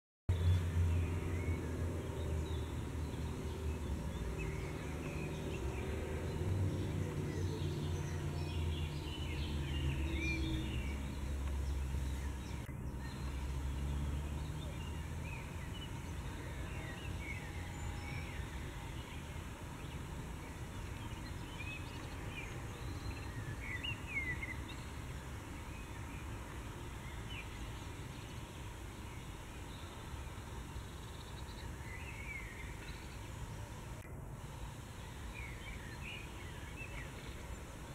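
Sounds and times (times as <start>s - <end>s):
small birds chirping: 0.3s - 37.9s.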